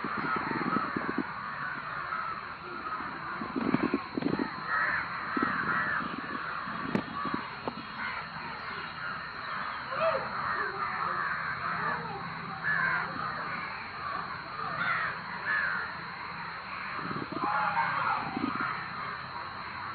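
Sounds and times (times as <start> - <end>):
crows cawing: 0.0 - 19.9.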